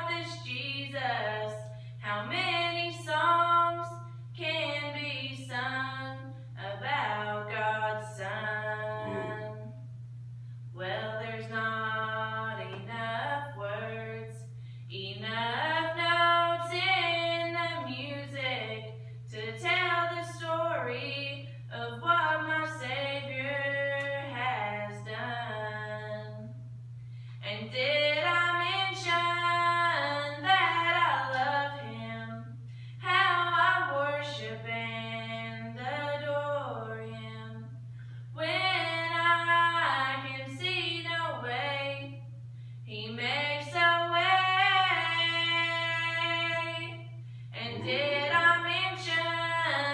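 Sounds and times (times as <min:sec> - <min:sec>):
woman singing gospel unaccompanied: 0:00.0 - 0:09.8, 0:10.7 - 0:26.6, 0:27.4 - 0:37.8, 0:38.4 - 0:49.9.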